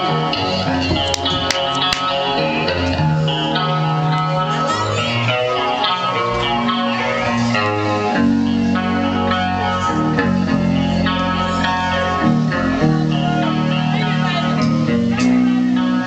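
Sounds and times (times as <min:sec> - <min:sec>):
bass guitar: 0:00.0 - 0:16.0
electric guitar: 0:00.0 - 0:16.0.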